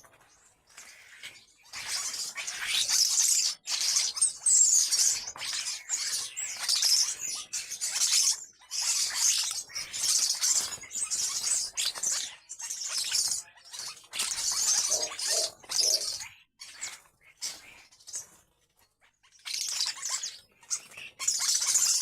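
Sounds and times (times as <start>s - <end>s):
birds squabbling with harsh calls: 0.0s - 22.0s.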